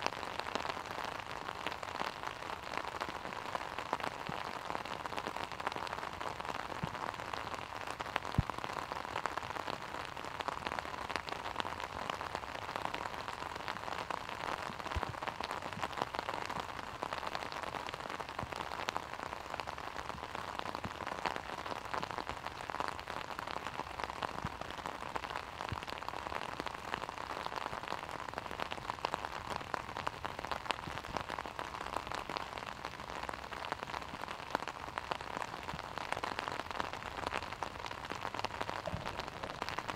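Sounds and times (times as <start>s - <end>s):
raindrops hitting an umbrella: 0.0s - 39.9s
steady rain falling: 0.0s - 39.9s.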